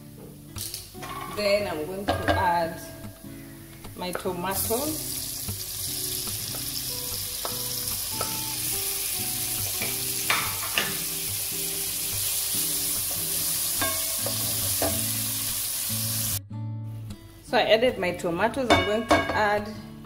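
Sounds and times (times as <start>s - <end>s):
tomatoes sizzling in oil: 0.0s - 16.4s.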